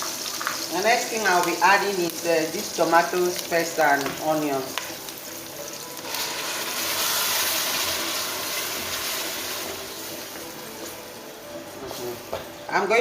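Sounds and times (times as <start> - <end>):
hot oil sizzling in a pot: 0.0 - 13.0.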